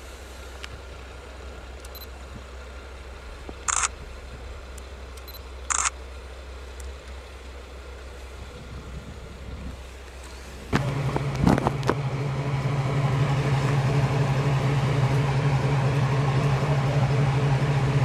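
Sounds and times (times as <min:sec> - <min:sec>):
diesel railcar engine idling: 0:00.0 - 0:18.0.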